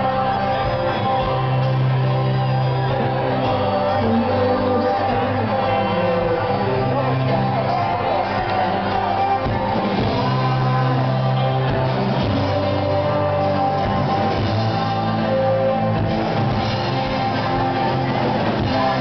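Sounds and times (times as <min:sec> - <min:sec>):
bass guitar: 0:00.0 - 0:19.0
drums: 0:00.0 - 0:19.0
electric guitar: 0:00.0 - 0:19.0.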